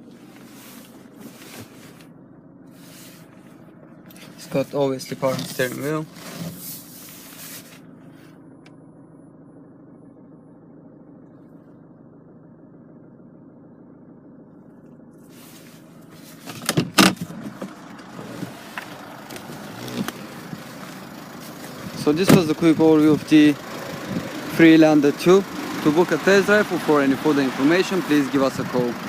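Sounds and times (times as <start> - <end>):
diesel engine idling: 0.0 - 16.5, 17.1 - 29.0.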